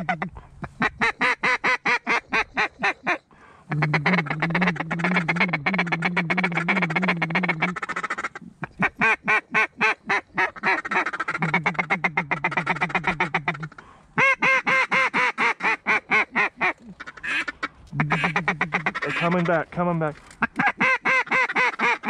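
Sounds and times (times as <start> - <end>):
duck call quacking: 0.0 - 19.6, 20.4 - 22.0
duck call warbling chatter: 0.0 - 19.7, 20.4 - 22.0.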